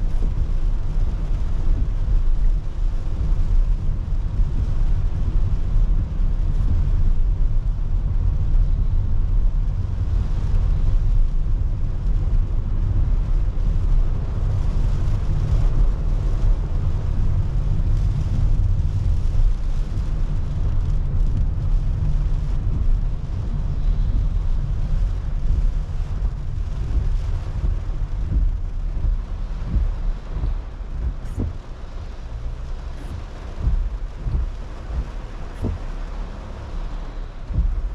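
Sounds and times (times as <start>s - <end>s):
car tyres on wet road: 0.0s - 37.9s
rain and spray hiss: 0.0s - 37.9s.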